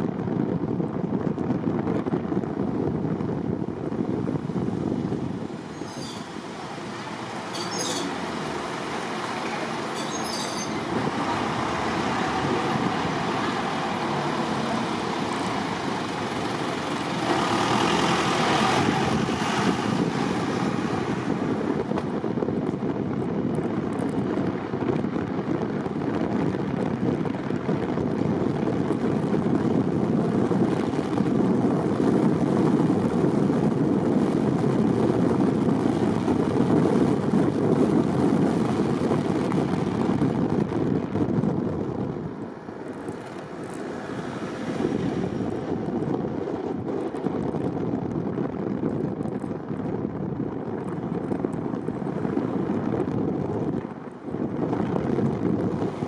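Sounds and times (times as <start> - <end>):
car road and engine noise: 0.0 - 56.0.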